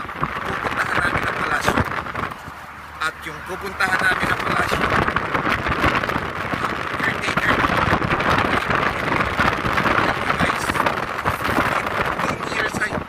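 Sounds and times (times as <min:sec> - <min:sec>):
car road and wind noise: 0:00.0 - 0:13.0
wind buffeting microphone: 0:00.0 - 0:13.0.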